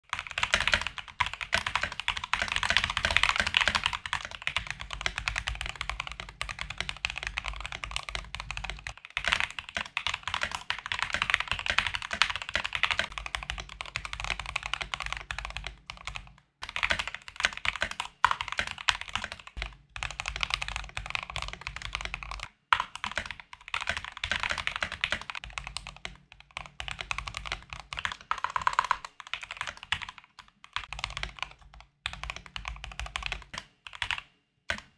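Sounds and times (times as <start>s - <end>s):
fast mechanical keyboard typing: 0.0s - 34.9s.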